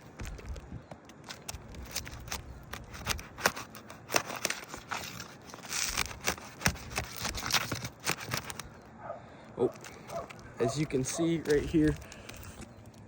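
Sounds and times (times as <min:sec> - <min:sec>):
shingles tearing rasps: 0:00.0 - 0:08.9, 0:09.5 - 0:13.0
roof shingles crackling and snapping: 0:00.0 - 0:13.0.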